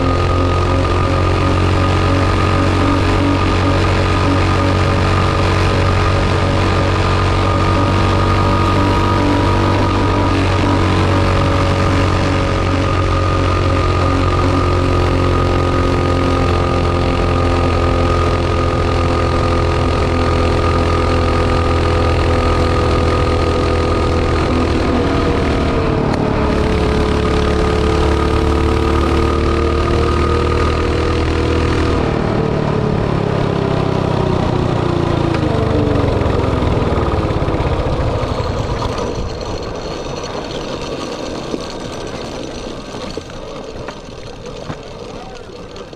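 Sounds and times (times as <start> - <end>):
mini bike engine: 0.0 - 45.9.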